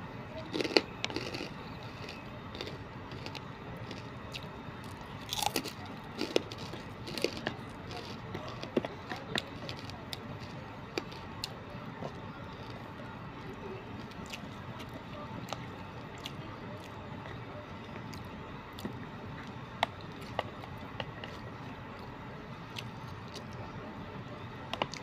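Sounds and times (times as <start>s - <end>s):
person chewing rice: 0.4s - 12.9s, 13.5s - 23.8s.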